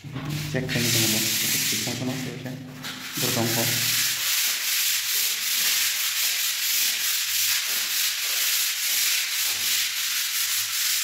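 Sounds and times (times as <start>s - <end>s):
sanding block rasping on wall: 0.2s - 11.0s.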